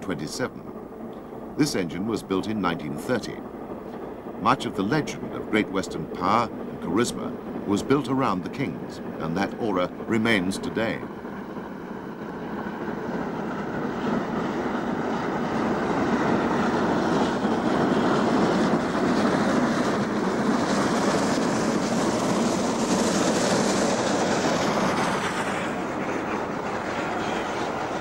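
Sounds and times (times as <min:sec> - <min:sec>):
steam train rumbling past: 0:00.0 - 0:28.0.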